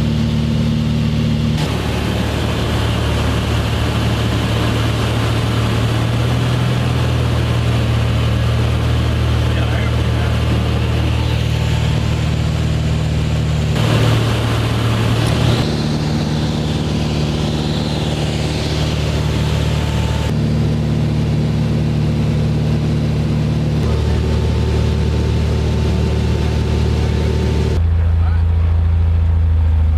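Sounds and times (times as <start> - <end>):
propeller plane engine droning: 0.0 - 29.9.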